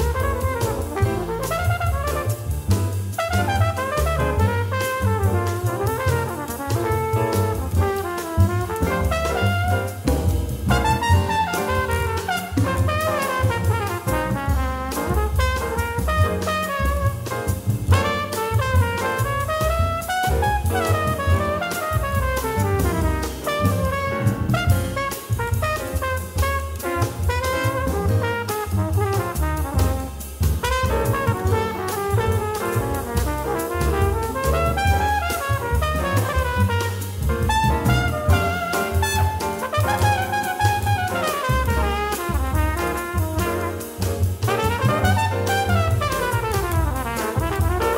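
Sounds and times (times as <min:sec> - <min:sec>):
bass: 0:00.0 - 0:47.9
drum kit cymbals: 0:00.0 - 0:47.9
jazz horn solo: 0:00.0 - 0:47.9
piano: 0:00.0 - 0:47.9.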